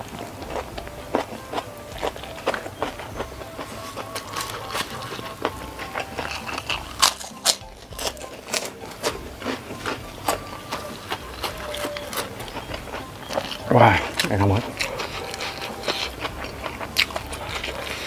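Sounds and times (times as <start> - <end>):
chewing and lip-smacking: 0.0 - 18.0.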